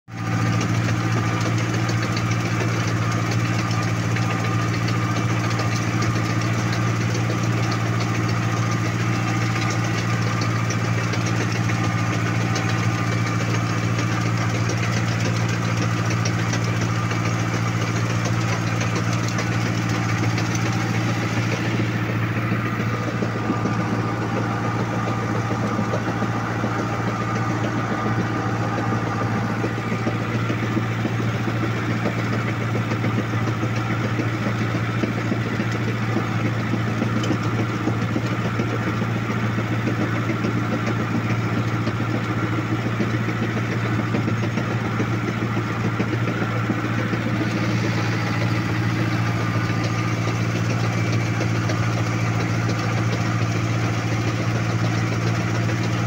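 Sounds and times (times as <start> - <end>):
tractor engine running: 0.1 - 56.0.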